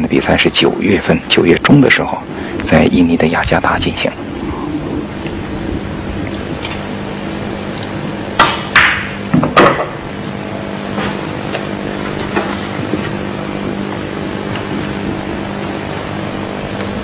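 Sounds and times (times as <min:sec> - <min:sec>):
steady hall hum: 0:00.0 - 0:17.0.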